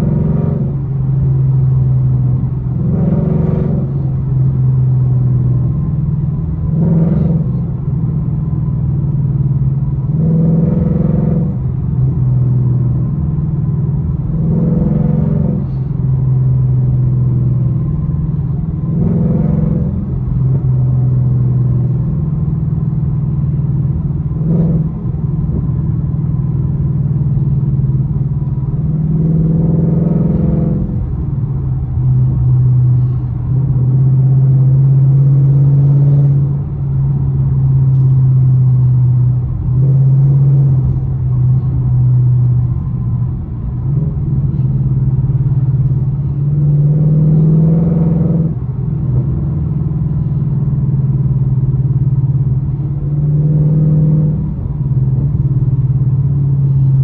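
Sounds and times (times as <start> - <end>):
car engine with loud exhaust: 0.0 - 57.0.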